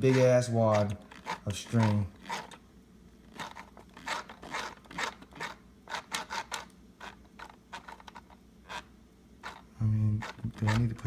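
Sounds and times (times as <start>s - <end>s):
scratching and rustling: 0.0s - 2.6s, 3.2s - 11.0s.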